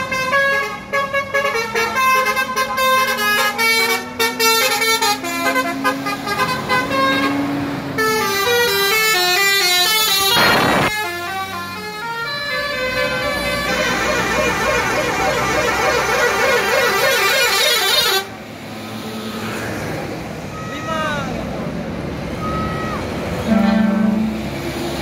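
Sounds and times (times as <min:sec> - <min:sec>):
musical bus horns playing tunes: 0:00.0 - 0:18.4, 0:22.4 - 0:25.0.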